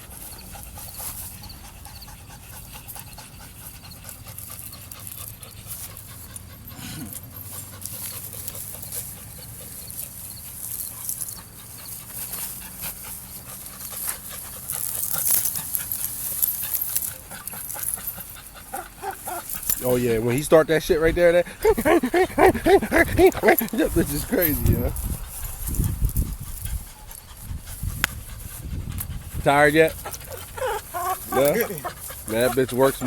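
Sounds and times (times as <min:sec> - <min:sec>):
dog panting: 0:00.0 - 0:33.0.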